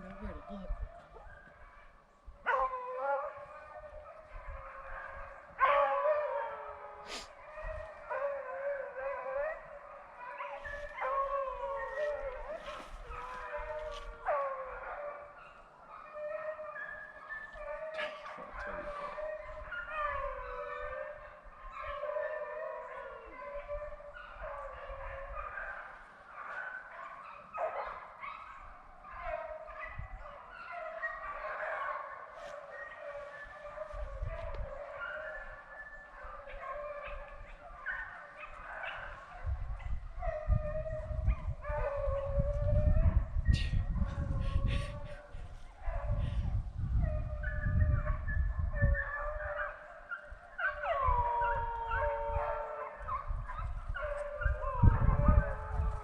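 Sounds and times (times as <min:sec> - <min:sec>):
hounds baying: 0:00.0 - 0:56.0.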